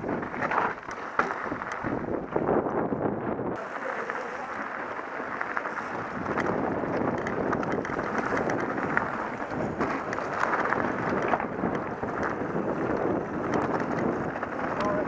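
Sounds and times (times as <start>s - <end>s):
bike tyres rolling over gravel: 0.0s - 15.0s
wind buffeting microphone: 0.0s - 15.0s.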